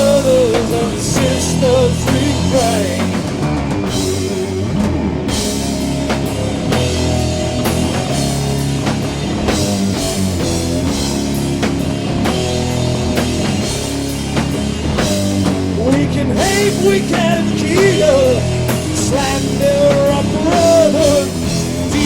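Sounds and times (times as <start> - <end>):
distorted electric guitars and bass: 0.0 - 22.0
drum beat with cymbals: 0.0 - 22.0.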